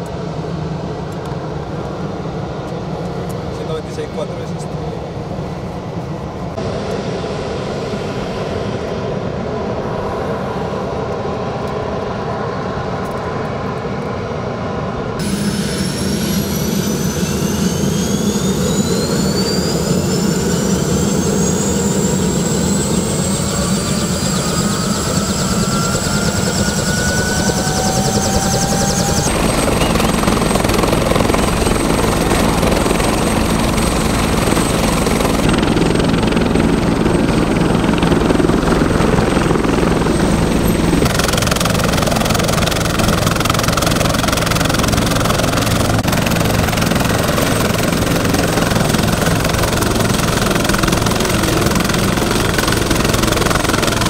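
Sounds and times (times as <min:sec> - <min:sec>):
helicopter rotor and engine drone: 0:00.0 - 0:54.0
turbine whine: 0:00.0 - 0:54.0.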